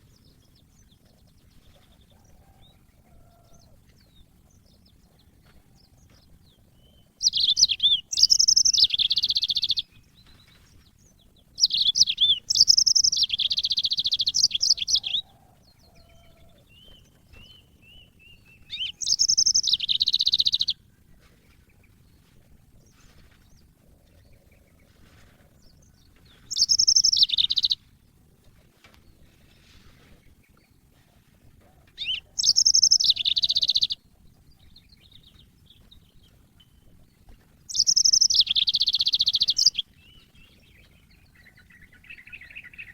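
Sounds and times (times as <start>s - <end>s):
canary twittering song: 0.0s - 28.2s, 29.1s - 42.9s.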